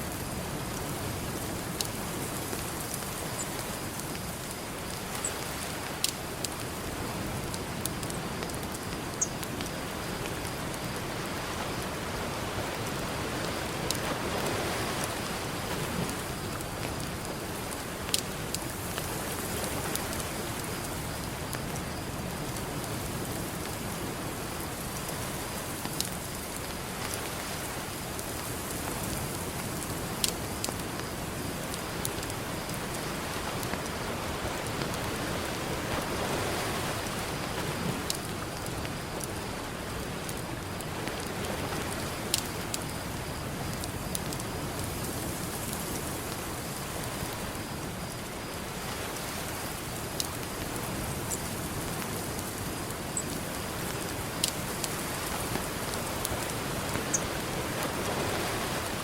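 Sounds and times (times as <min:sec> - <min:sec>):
ocean surf: 0:00.0 - 0:21.2, 0:31.0 - 0:59.0
campfire crackling and popping: 0:00.2 - 0:12.0, 0:13.5 - 0:36.1, 0:37.0 - 0:58.6.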